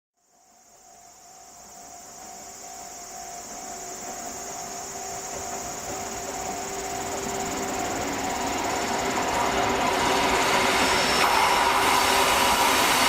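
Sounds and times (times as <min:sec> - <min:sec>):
insects droning: 0:00.2 - 0:13.0.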